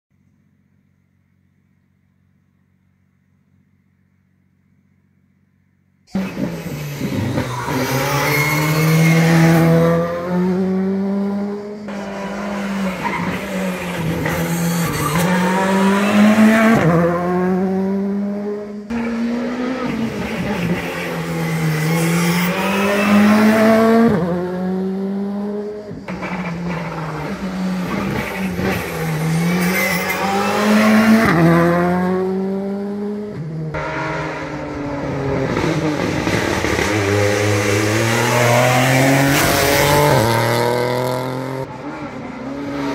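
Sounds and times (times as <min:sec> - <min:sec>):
rally car engines revving: 0:06.1 - 0:42.9.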